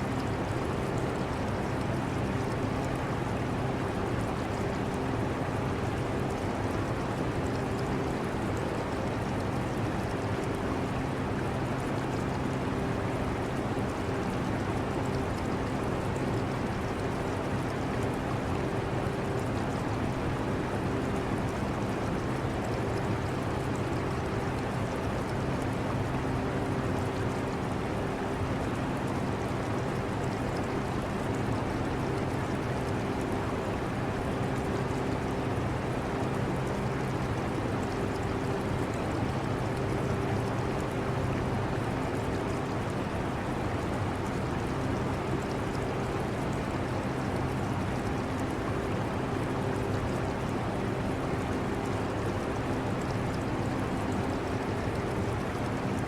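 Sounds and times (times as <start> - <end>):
aquarium water trickling: 0.1 - 56.0.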